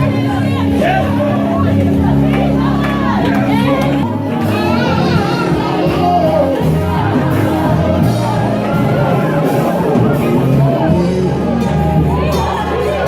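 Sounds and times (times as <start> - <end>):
held chords: 0.0 - 13.0
voices singing and shouting: 0.0 - 13.0.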